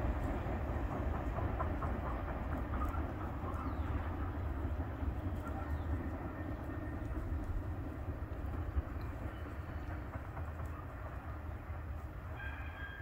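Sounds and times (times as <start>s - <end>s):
distant freight train rumble: 0.0s - 13.0s.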